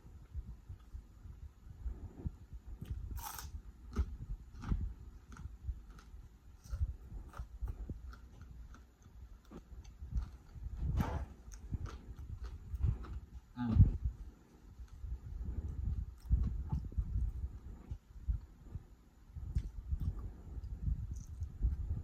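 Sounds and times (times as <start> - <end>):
soft low thumps: 0.0 - 22.0.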